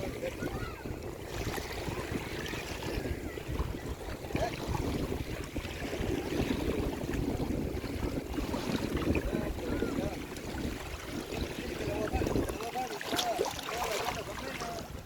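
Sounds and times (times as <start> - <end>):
moving water: 0.0 - 15.0
wind rumbling on microphone: 0.0 - 15.0.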